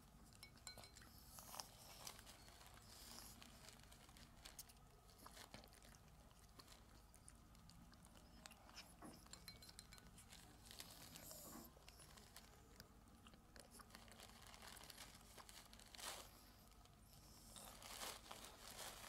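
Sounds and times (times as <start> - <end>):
cat eating: 0.0 - 19.0.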